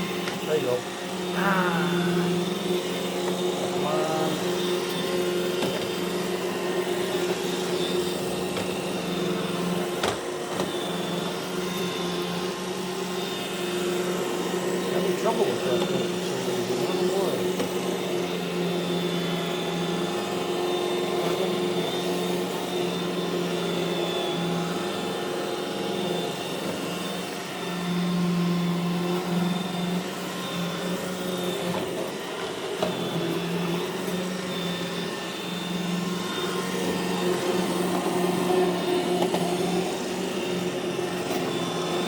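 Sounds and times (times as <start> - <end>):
robot vacuum cleaner running: 0.0 - 42.0.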